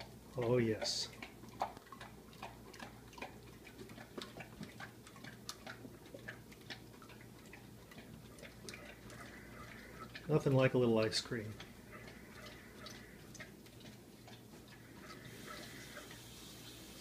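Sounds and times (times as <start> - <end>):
dog licking with wet smacks: 0.0 - 17.0.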